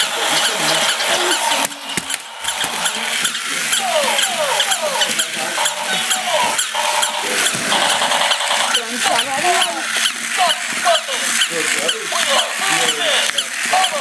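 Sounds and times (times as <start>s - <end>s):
toy motors and gears whirring: 0.0s - 14.0s.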